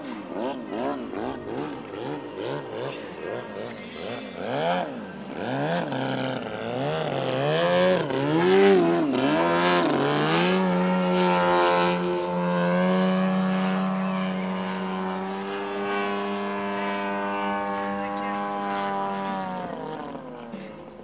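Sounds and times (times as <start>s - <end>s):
model plane engine: 0.0s - 21.0s.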